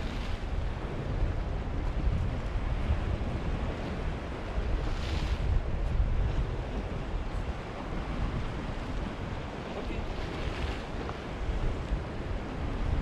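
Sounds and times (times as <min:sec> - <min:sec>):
sea waves on rocky shore: 0:00.0 - 0:13.0
wind buffeting microphone: 0:00.0 - 0:13.0.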